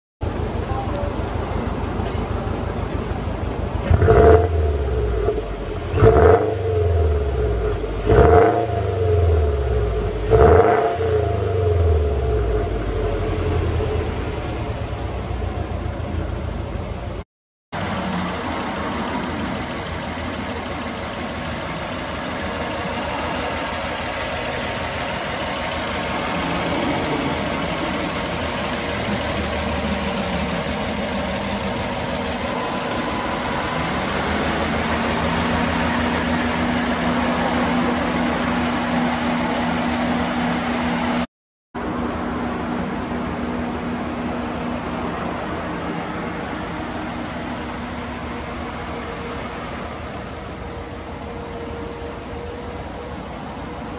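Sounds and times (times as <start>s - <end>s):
car engine idling: 0.2s - 53.9s.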